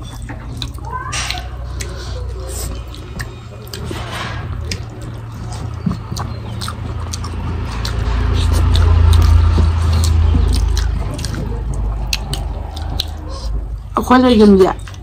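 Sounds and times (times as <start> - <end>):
steady low hum: 0.0 - 15.0
wet chewing and lip smacks: 0.0 - 15.0.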